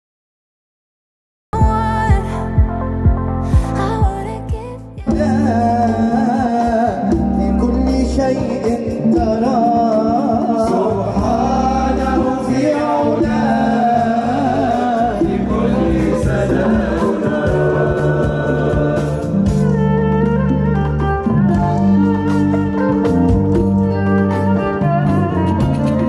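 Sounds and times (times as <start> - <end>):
low accompaniment: 1.6 - 26.0.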